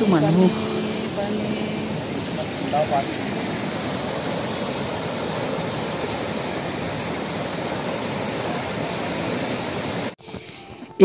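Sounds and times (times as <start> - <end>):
stream water rushing over rock: 0.0 - 10.2.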